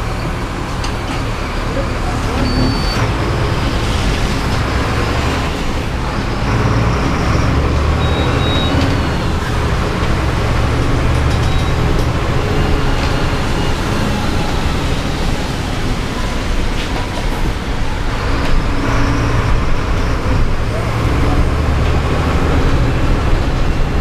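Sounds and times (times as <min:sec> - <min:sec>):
bus engine rumble: 0:00.0 - 0:24.0
tyre noise on wet road: 0:00.0 - 0:24.0.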